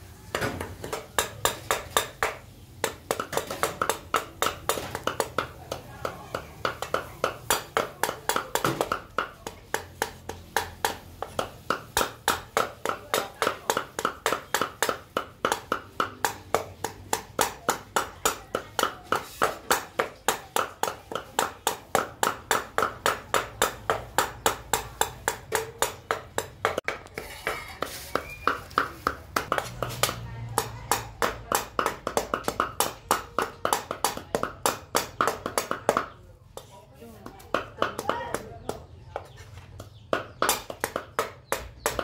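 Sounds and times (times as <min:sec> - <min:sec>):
cleaver chopping on wooden block: 0:00.3 - 0:42.0.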